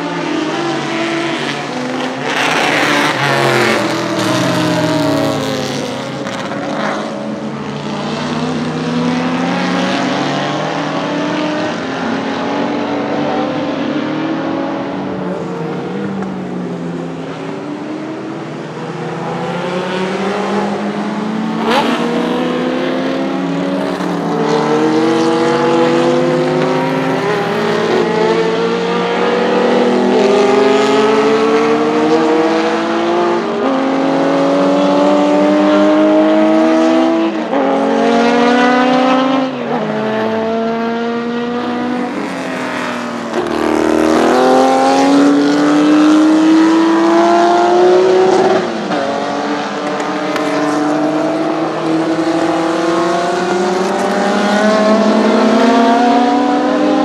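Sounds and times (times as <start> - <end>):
racing car engines revving: 0.0 - 57.0.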